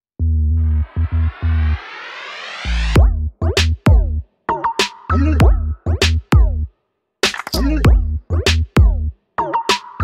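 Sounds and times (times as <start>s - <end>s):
electronic hip-hop beat: 0.2s - 10.0s.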